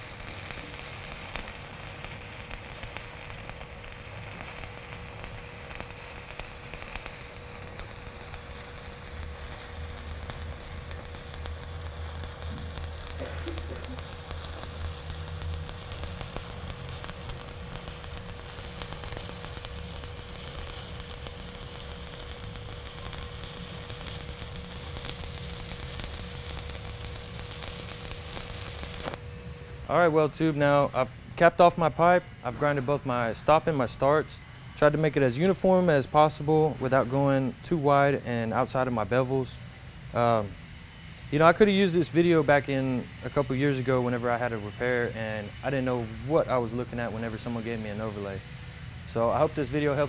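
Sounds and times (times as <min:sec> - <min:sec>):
welding arc crackling: 0:00.0 - 0:30.8, 0:33.2 - 0:50.0.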